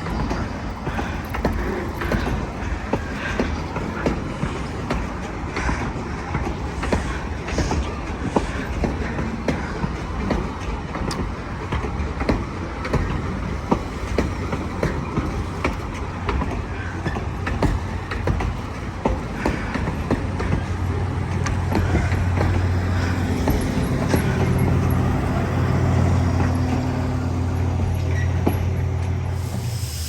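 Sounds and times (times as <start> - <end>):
wheels clicking over rail joints: 0.0 - 29.4
train rumbling: 0.0 - 30.0.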